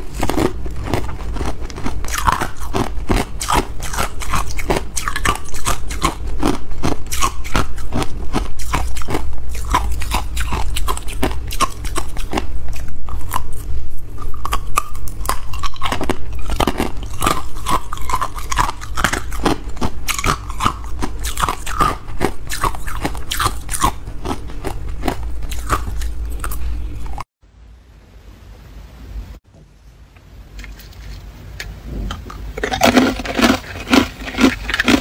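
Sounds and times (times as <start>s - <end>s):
ice being chewed: 0.0s - 27.2s, 32.1s - 35.0s.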